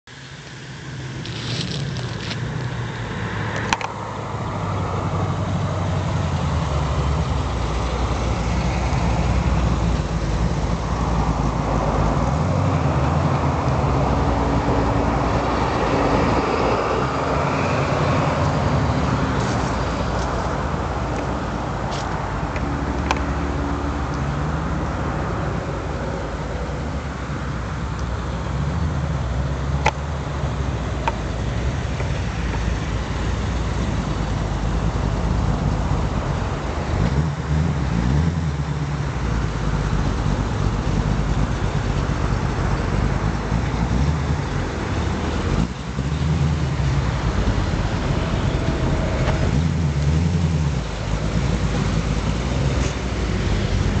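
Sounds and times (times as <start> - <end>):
car engines idling with a lope: 0.1 - 54.0.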